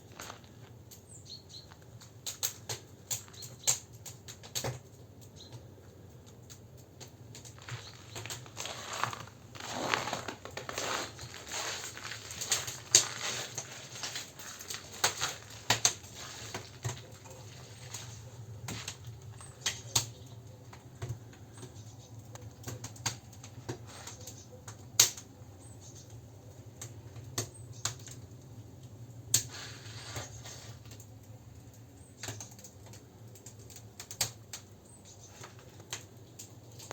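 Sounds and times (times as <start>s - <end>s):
campfire crackling: 0.0s - 36.9s.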